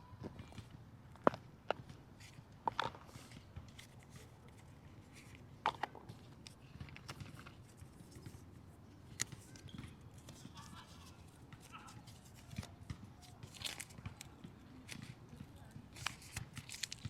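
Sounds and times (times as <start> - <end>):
packaging clicks and taps: 1.2 - 17.0.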